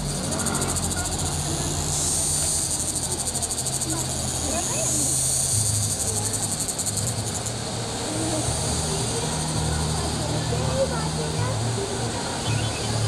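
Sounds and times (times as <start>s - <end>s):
insects chirring: 0.0s - 11.1s, 12.1s - 13.0s.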